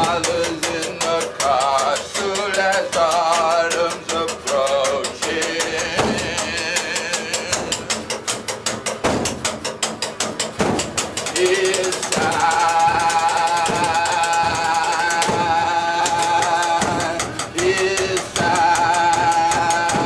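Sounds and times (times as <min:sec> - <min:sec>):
fast clicking percussion: 0:00.0 - 0:20.0.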